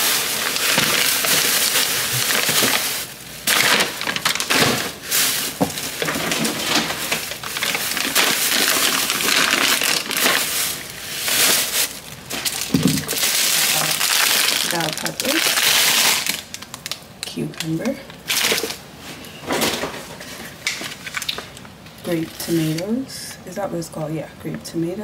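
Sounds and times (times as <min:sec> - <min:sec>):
plastic packaging crinkling: 0:00.0 - 0:18.9, 0:19.6 - 0:23.0.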